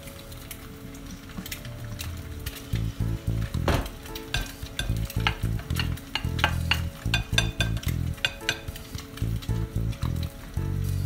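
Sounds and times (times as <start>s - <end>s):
low steady tones: 0.0s - 11.0s.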